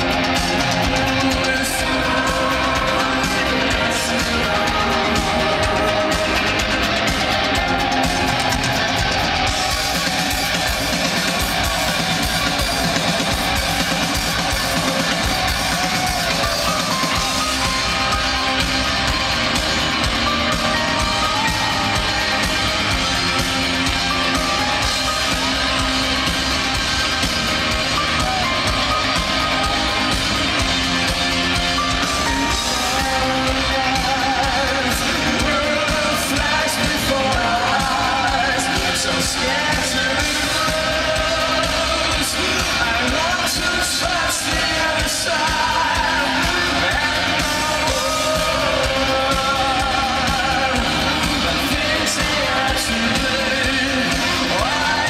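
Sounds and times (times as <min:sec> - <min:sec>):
high wavering lead vocal: 0:00.0 - 0:55.0
live rock band playing: 0:00.0 - 0:55.0.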